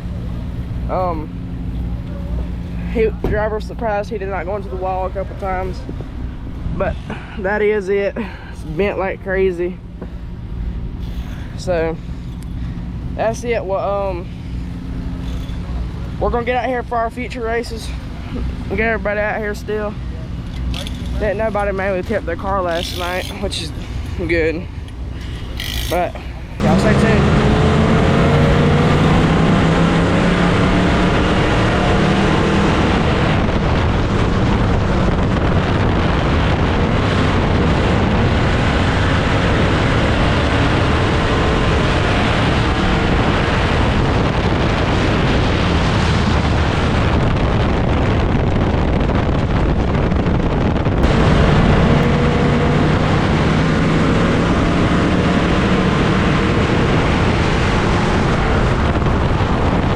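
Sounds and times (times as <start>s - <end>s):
race car engines running: 0.0s - 59.9s
wind buffeting microphone: 0.0s - 59.9s.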